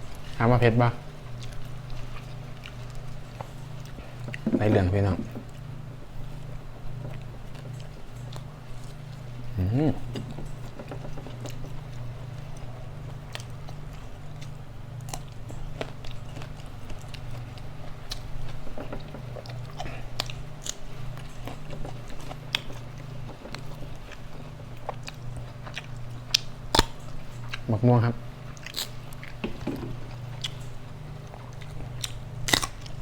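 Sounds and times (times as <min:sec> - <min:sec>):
steady low hum: 0:00.0 - 0:33.0
person chewing food: 0:01.0 - 0:27.7, 0:28.4 - 0:33.0.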